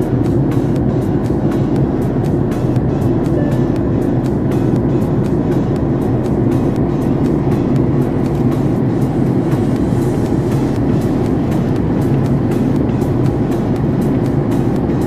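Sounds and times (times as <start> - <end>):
airliner cabin rumble: 0.0 - 15.0
music with steady beat: 0.0 - 15.0.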